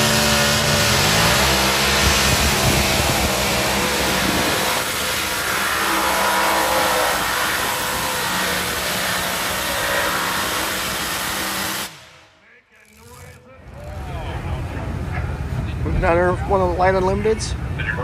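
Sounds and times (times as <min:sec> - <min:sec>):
tractor engine at high revs: 0:00.0 - 0:15.6.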